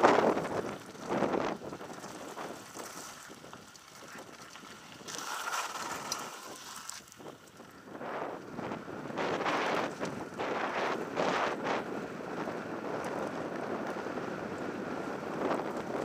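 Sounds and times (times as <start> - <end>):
tyres rolling over gravel: 0.0 - 16.0
wind rushing over microphone: 0.0 - 16.0.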